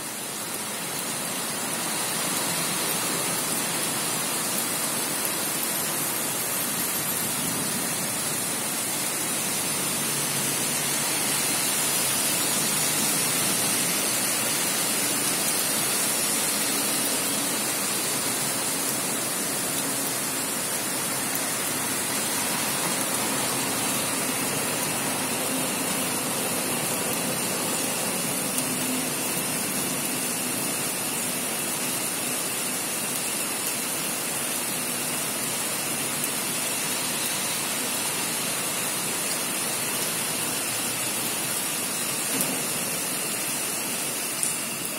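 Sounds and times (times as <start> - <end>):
heavy rain on street: 0.0 - 44.9.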